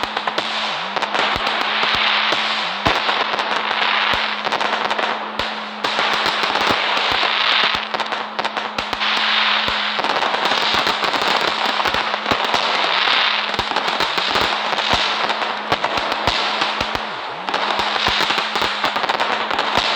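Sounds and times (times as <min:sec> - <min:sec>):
fireworks crackling and popping: 0:00.0 - 0:19.9.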